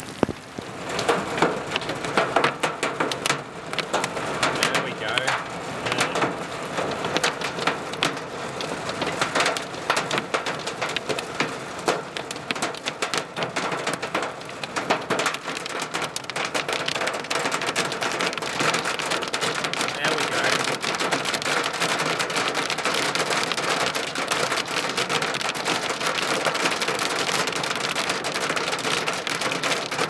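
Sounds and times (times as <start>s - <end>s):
hiss of falling ice and rain: 0.0s - 30.0s
hailstones pelting a car: 0.1s - 30.0s.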